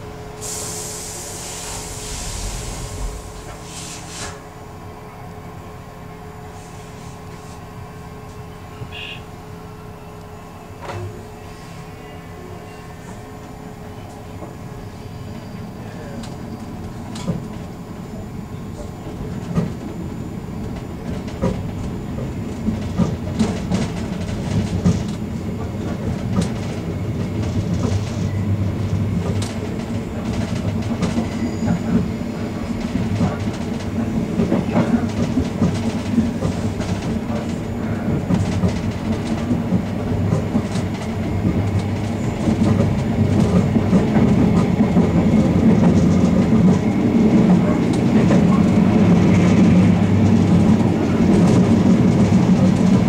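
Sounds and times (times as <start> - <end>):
electric train hum: 0.0 - 53.0.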